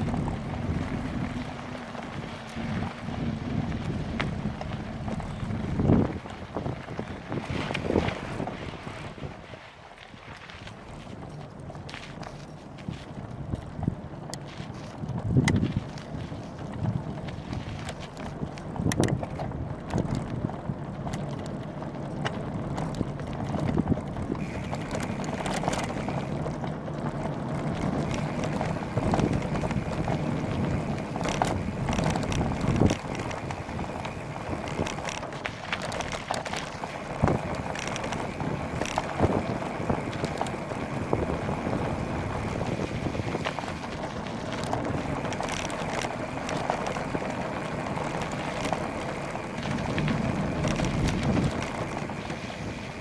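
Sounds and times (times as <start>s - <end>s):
bike knocks and rattles: 0.0s - 53.0s
wind buffeting microphone: 0.0s - 53.0s.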